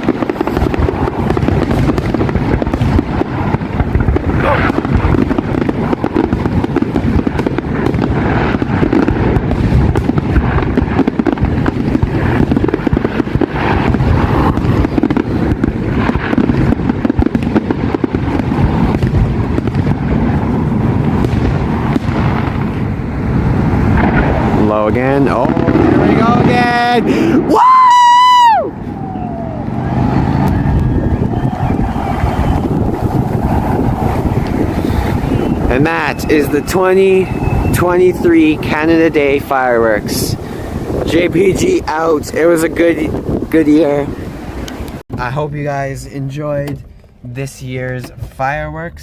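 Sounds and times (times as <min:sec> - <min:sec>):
fireworks bursting: 0:00.0 - 0:48.4.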